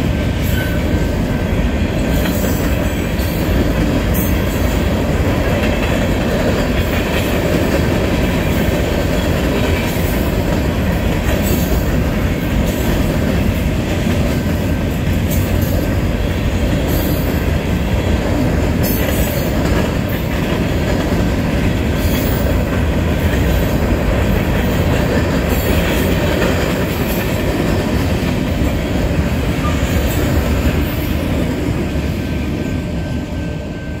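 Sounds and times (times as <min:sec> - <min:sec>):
train wheel clacks: 0:00.0 - 0:33.9
steel wheels rumbling on rail: 0:00.0 - 0:34.0.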